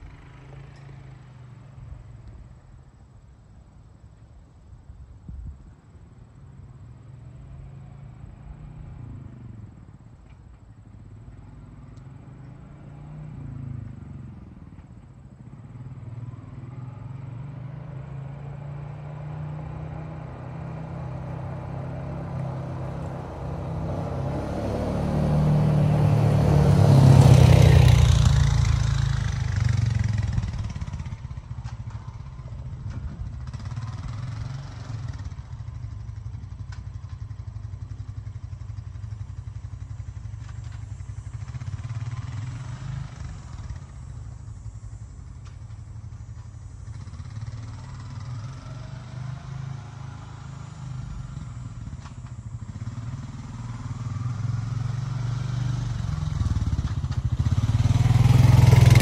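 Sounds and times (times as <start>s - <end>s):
atv engine passing: 0.0s - 3.0s, 6.6s - 59.0s.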